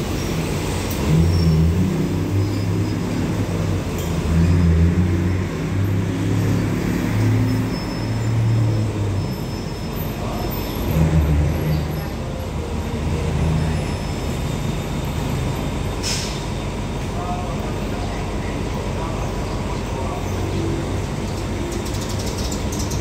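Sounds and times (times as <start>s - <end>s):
diesel train engine idling: 0.0s - 5.9s, 7.7s - 23.0s.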